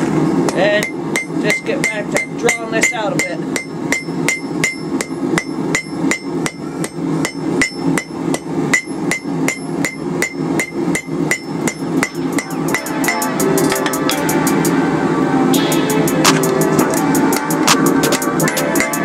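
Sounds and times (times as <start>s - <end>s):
hammer striking hot metal: 0.4s - 14.8s, 15.6s - 19.0s.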